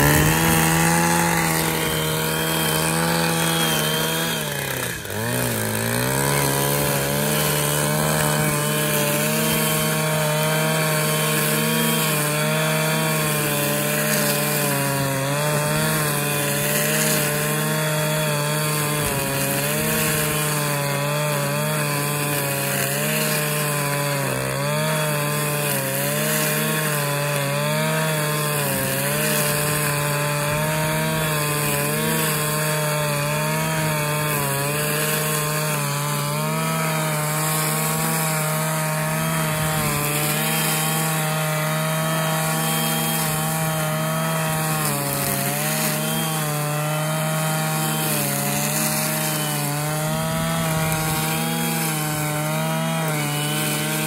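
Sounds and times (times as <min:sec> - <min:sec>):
brushcutter engine at high revs: 0:00.0 - 0:54.0
trimmer line cutting grass: 0:00.0 - 0:54.0.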